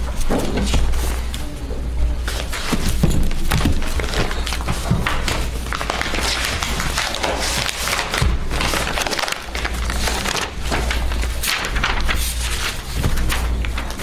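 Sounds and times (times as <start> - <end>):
paper rustling: 2.2 - 14.0.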